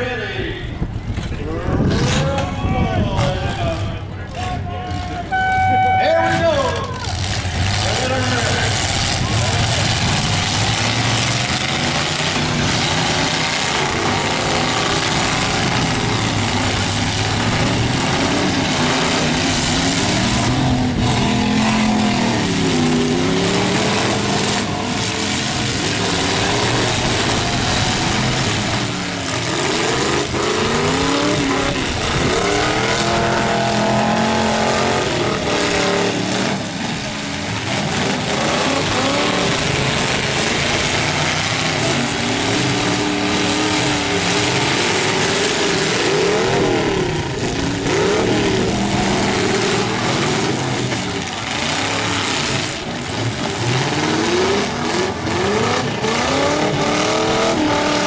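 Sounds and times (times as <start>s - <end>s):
car engines revving: 0.0s - 58.0s
din of running engines: 0.0s - 58.0s.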